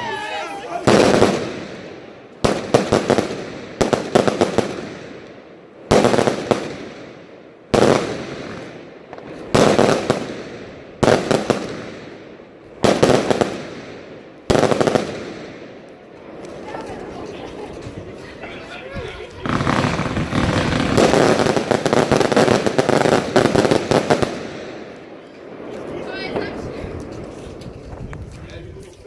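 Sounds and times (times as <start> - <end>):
fireworks bangs: 0.0 - 28.5.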